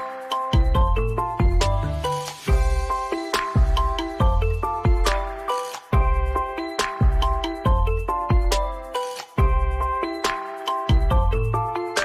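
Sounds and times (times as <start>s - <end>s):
bright melody over bouncing bass: 0.0s - 12.0s.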